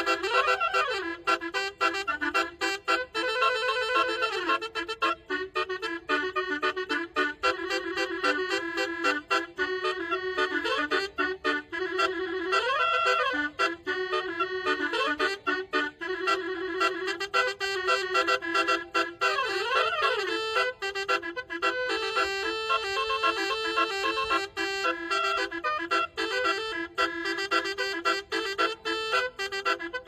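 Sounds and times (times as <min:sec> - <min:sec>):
multi-tone bus horn melody: 0:00.0 - 0:30.0.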